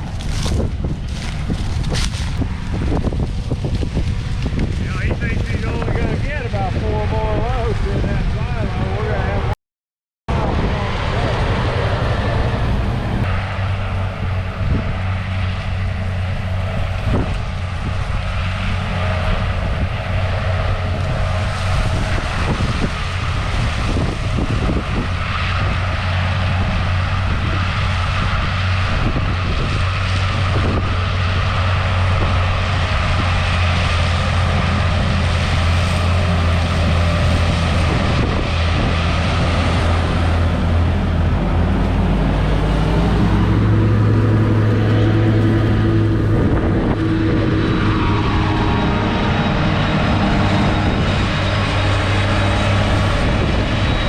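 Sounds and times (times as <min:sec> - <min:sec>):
diesel machinery engine drone: 0:00.0 - 0:09.6, 0:10.3 - 0:54.0.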